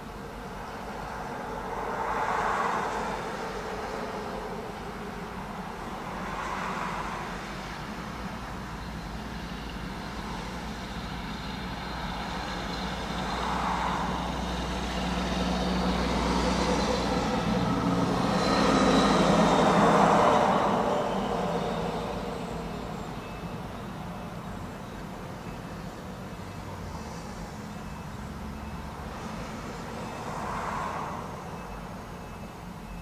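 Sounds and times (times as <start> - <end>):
steady low traffic hum: 0.0 - 33.0
vehicles passing: 0.0 - 33.0.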